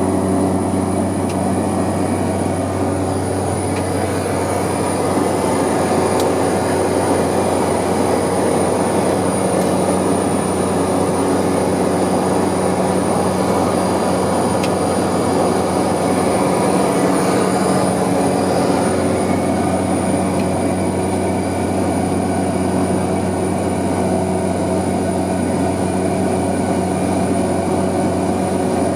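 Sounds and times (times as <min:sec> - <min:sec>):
high turbine whine: 0:00.0 - 0:25.1
turboprop engine drone: 0:00.0 - 0:28.9.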